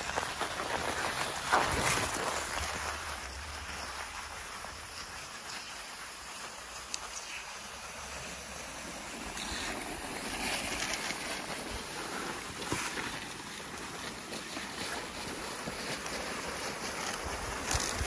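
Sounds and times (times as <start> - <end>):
skis swishing over snow: 0.0 - 18.0.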